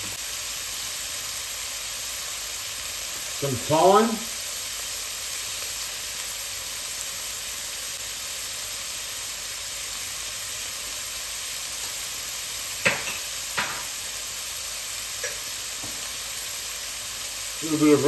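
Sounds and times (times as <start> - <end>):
vegetables sizzling in a pot: 0.0 - 18.0.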